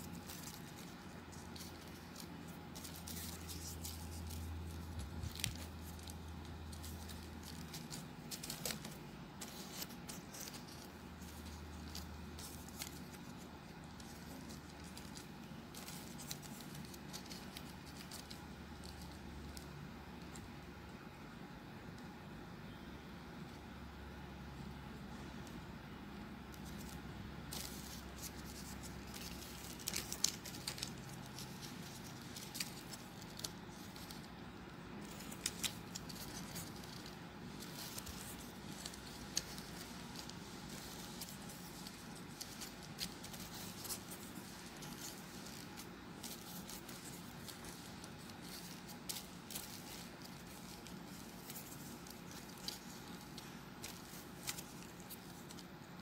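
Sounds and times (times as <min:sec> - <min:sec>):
paper rustling and clicking: 0:00.0 - 0:20.7, 0:25.1 - 0:56.0
faint steady hum: 0:00.0 - 0:56.0.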